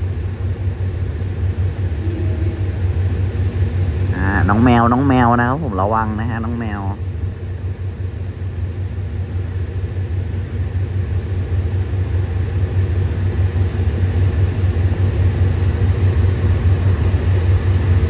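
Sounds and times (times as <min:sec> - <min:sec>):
diesel train rumble: 0:00.0 - 0:18.0.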